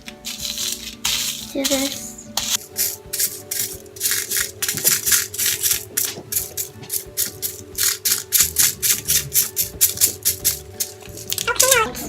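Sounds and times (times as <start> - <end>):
sprinkles container rattling: 0.0 - 11.9.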